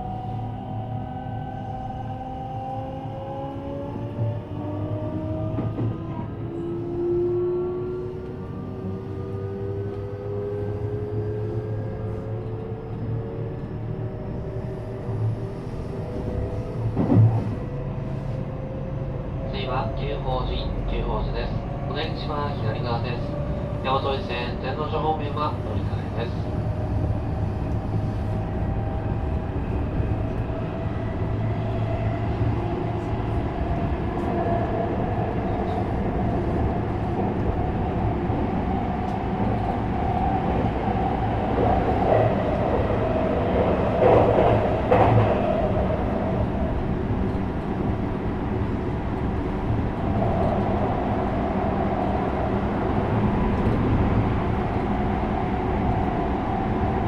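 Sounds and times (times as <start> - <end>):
train wheel-on-rail rumble: 0.0 - 57.0.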